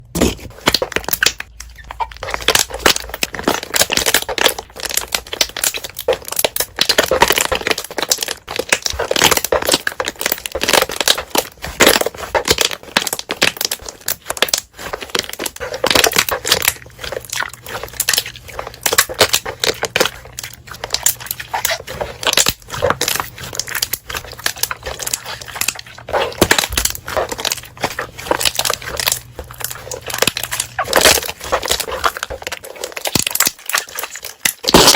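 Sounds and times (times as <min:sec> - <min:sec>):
slime squeezed by hand: 0:00.1 - 0:34.9.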